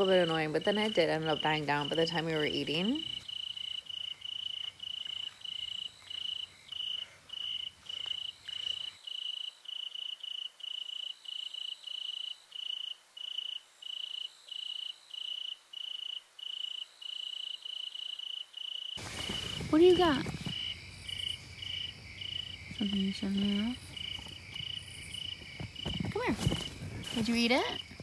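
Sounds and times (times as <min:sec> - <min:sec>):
cricket chirping: 0:00.0 - 0:28.0.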